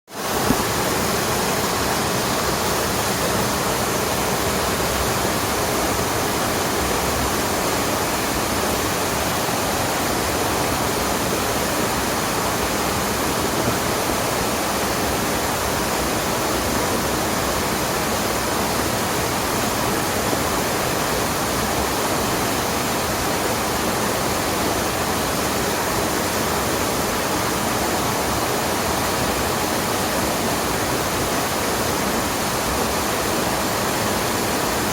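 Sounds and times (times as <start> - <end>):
water rushing over waterfall: 0.1 - 34.9.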